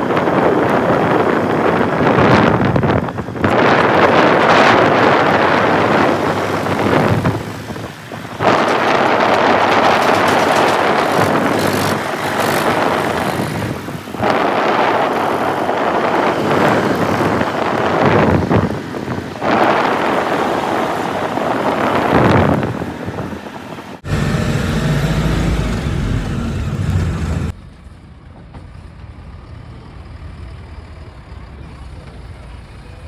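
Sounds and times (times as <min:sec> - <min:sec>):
wind buffeting microphone: 0:00.0 - 0:27.6
heavy diesel machinery running: 0:00.0 - 0:33.0.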